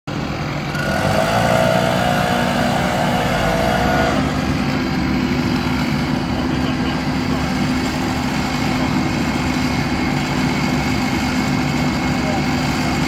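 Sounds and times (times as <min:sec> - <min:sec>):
loader whine: 0:00.1 - 0:13.0
truck engine running under load: 0:00.1 - 0:13.0.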